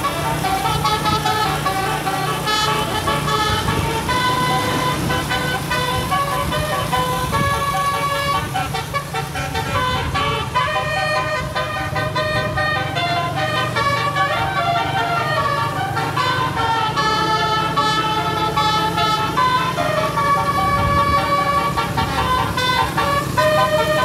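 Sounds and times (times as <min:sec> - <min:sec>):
bus engine running: 0:00.0 - 0:24.0
musical air horn melody: 0:00.0 - 0:24.0.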